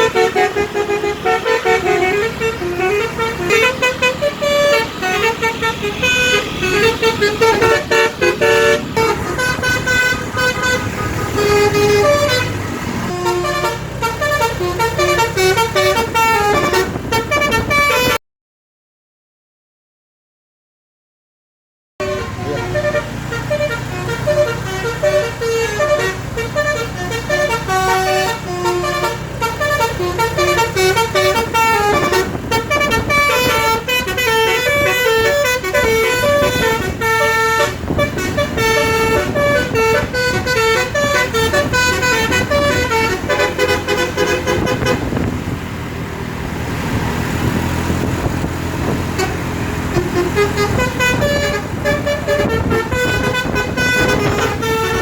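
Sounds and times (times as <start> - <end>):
multi-tone air horn melody: 0.0 - 18.2, 22.0 - 45.4, 48.0 - 55.0.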